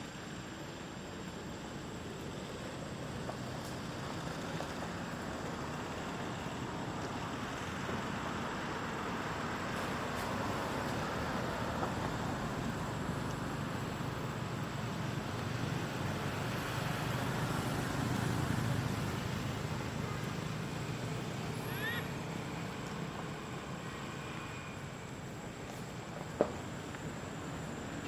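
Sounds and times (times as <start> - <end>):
low rumble of road traffic: 0.0 - 28.0.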